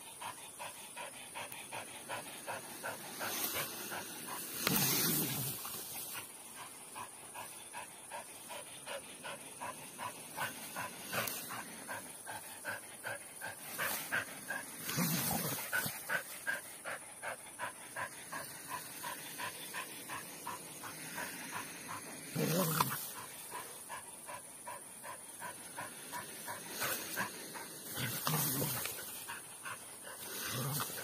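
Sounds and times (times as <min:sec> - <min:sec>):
small dog panting: 0:00.0 - 0:04.7, 0:06.0 - 0:31.0.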